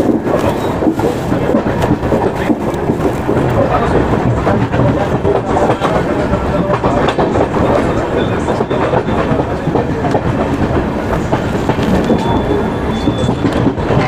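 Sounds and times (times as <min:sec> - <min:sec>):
train rolling noise: 0:00.0 - 0:14.0
wheels clattering over rail joints: 0:00.0 - 0:14.0.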